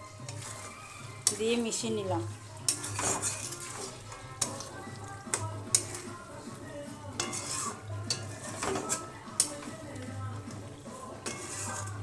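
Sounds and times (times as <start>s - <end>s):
metal utensil scraping a pot: 0.0s - 12.0s.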